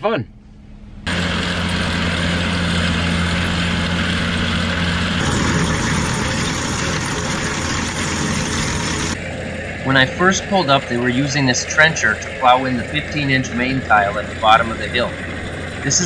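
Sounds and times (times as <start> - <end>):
trencher engine drone: 0.0 - 16.0
harsh digging rush: 1.1 - 9.2, 9.8 - 16.0.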